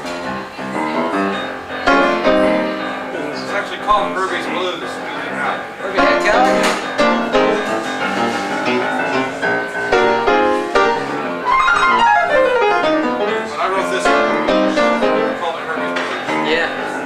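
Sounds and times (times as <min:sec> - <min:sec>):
blues piano: 0:00.0 - 0:17.0.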